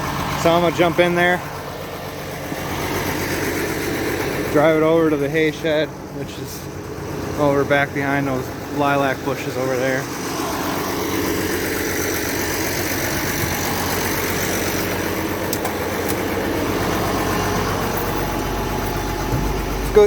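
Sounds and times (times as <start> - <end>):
tractor engine rumbling: 0.0 - 20.0.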